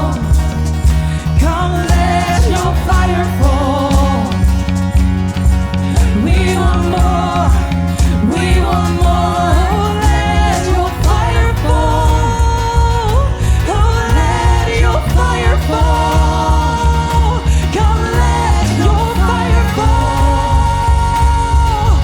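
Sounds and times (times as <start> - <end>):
person singing: 0.0 - 4.8, 5.9 - 22.0
pulsing bass: 0.0 - 22.0
worship band music: 0.0 - 22.0.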